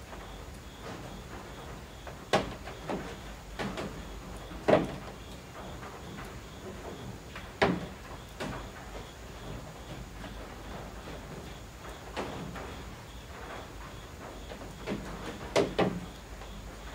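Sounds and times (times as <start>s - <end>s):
rain patter on a roof: 0.0s - 16.9s.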